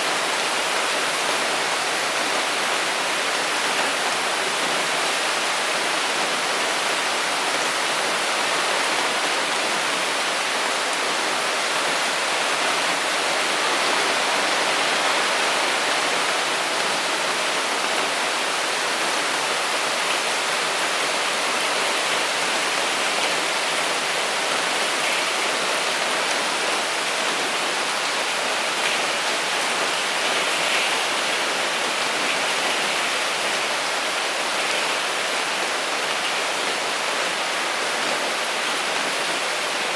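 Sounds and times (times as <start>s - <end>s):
heavy rain in strong wind: 0.0s - 39.9s.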